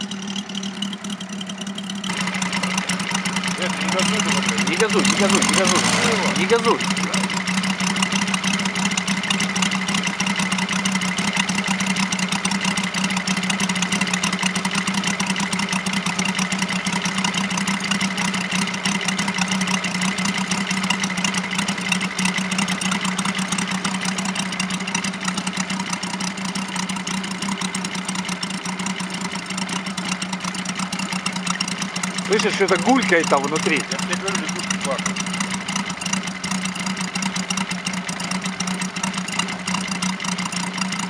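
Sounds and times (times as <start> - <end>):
model plane engine idling: 0.0 - 41.0.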